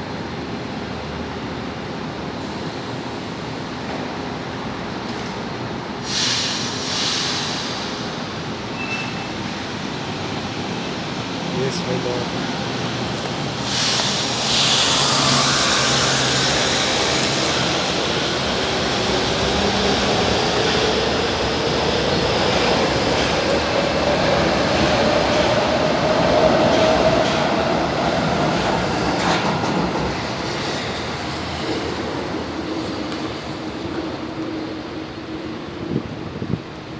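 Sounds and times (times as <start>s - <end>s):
train running with motor whine: 0.0s - 36.9s.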